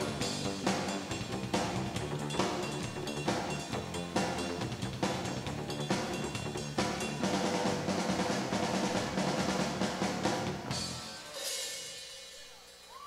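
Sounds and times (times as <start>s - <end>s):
live rock band: 0.0s - 12.4s
loud drum kit: 0.0s - 13.0s.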